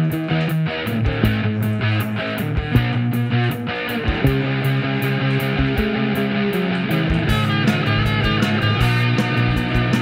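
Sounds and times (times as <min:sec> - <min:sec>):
rock band instrumental: 0:00.0 - 0:10.0.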